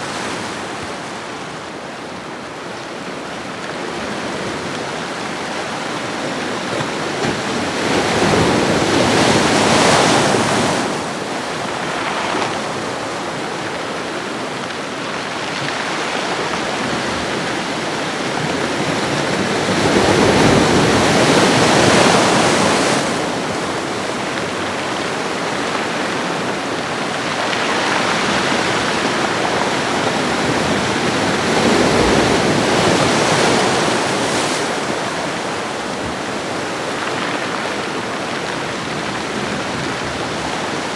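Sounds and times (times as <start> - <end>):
waves breaking: 5.9 - 40.9.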